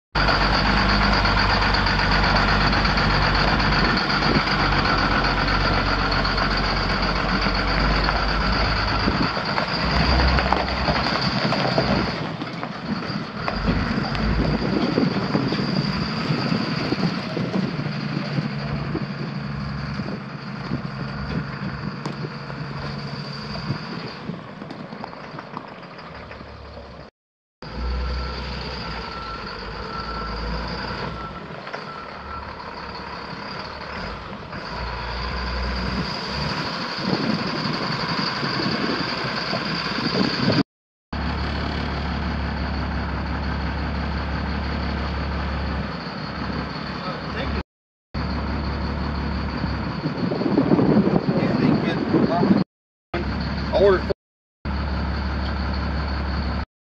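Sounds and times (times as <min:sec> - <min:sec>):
diesel truck engine running: 0:00.2 - 0:47.6, 0:48.2 - 0:52.6, 0:53.2 - 0:56.7.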